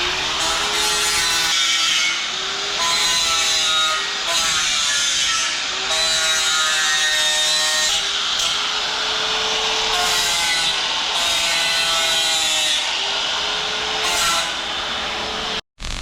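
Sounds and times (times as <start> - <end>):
power grinder on metal: 0.0 - 15.3.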